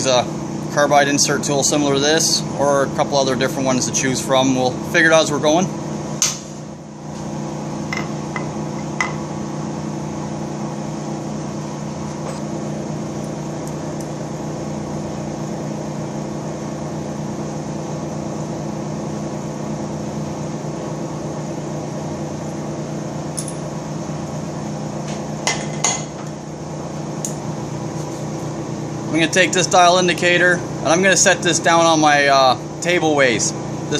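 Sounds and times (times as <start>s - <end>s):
electric machinery hum: 0.0s - 33.9s.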